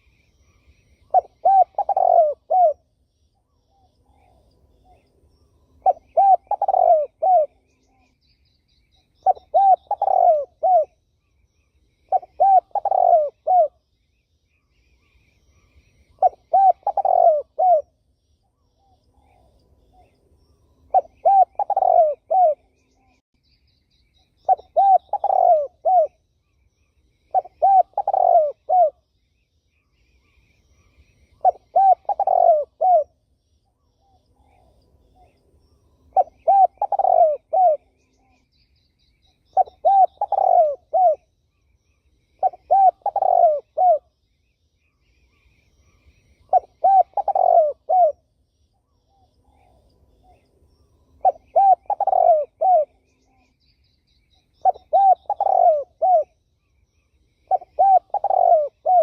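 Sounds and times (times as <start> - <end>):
turtle dove cooing: 0.0 - 5.1, 5.8 - 11.0, 12.0 - 13.8, 15.0 - 18.0, 20.8 - 23.2, 24.2 - 26.2, 27.2 - 29.0, 30.2 - 35.4, 36.0 - 38.6, 39.2 - 44.1, 45.1 - 53.7, 54.3 - 59.0
small birds chirping: 0.0 - 59.0.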